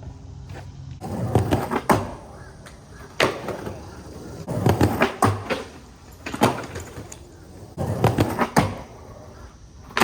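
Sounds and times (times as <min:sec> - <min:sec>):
skateboard rolling on concrete: 0:00.0 - 0:10.0
skateboard clacks: 0:01.0 - 0:10.0.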